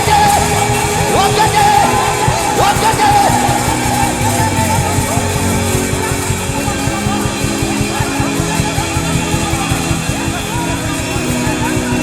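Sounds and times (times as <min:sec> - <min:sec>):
instrumental gospel music: 0:00.0 - 0:12.0.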